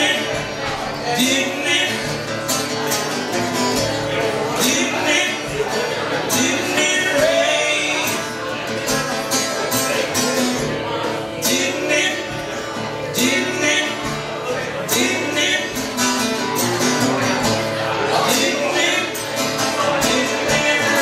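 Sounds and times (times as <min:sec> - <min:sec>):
man and woman singing: 0:00.0 - 0:02.4, 0:03.8 - 0:16.4, 0:17.6 - 0:21.0
strummed acoustic guitar: 0:00.0 - 0:21.0.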